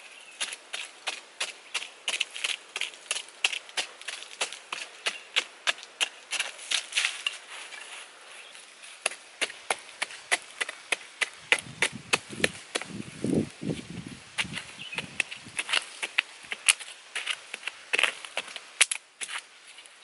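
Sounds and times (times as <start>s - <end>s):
stick striking dry soil: 0.0s - 8.0s, 8.8s - 20.0s.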